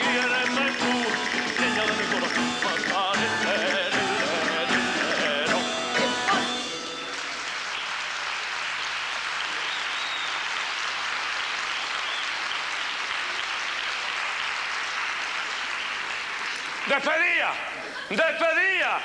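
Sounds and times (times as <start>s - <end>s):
audience applauding: 0.0s - 18.6s.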